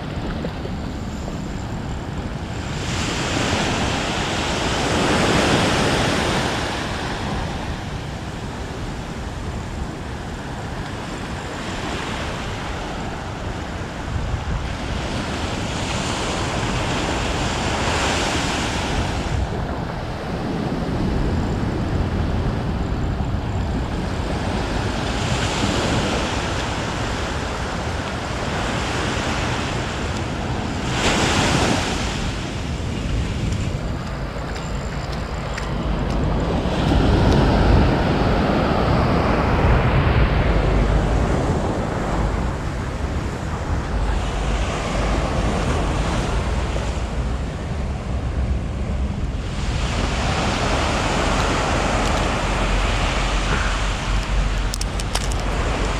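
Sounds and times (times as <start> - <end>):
sea waves breaking on shore: 0.0 - 55.9
wind rumbling on microphone: 0.0 - 55.9.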